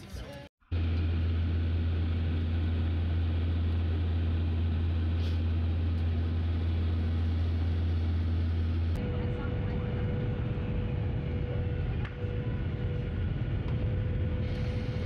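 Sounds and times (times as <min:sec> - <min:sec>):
jet airliner cabin drone: 0:00.3 - 0:15.0.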